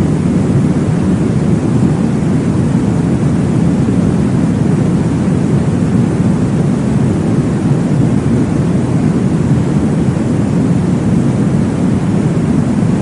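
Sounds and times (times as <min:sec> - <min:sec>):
deep whooshing white noise: 0:00.0 - 0:13.0.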